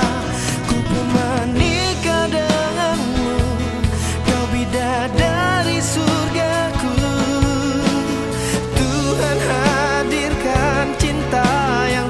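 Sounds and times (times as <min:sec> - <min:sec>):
pop ballad: 0:00.0 - 0:12.0.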